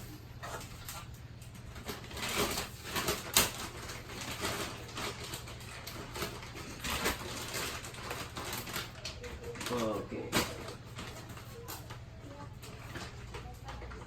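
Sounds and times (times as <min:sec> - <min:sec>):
rustling mattress packaging: 0:00.0 - 0:14.0.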